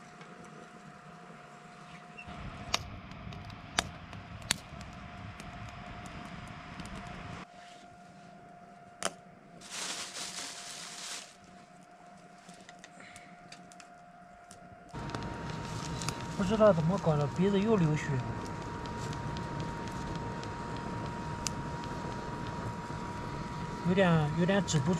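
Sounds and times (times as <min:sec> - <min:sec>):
faint steady hum: 0:00.0 - 0:24.9
fire crackling: 0:02.3 - 0:07.5, 0:09.6 - 0:24.9.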